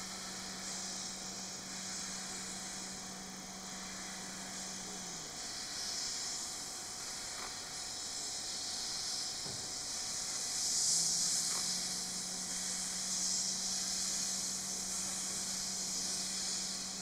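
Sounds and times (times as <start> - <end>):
steady low hum: 0.0 - 17.0
steam locomotive hissing: 0.0 - 17.0.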